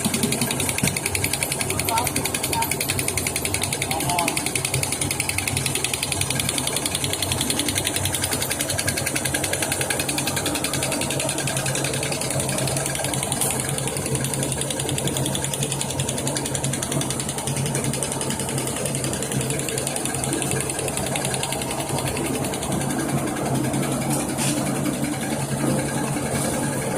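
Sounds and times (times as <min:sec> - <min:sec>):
fast mechanical rattle: 0:00.0 - 0:26.9.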